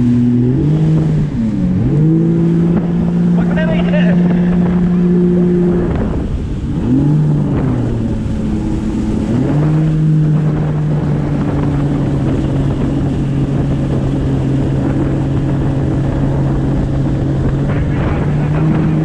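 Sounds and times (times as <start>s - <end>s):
jet ski engine running: 0.0s - 19.0s
rush of wind and water: 0.0s - 19.0s.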